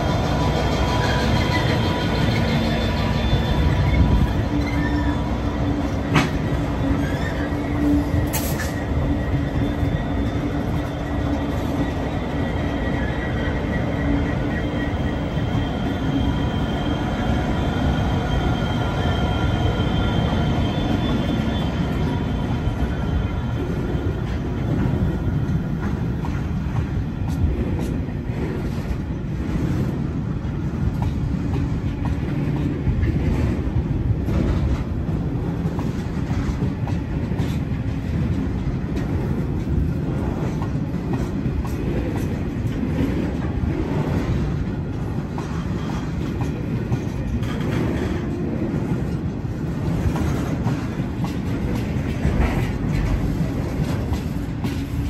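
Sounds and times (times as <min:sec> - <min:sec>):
diesel locomotives passing: 0:00.0 - 0:55.0.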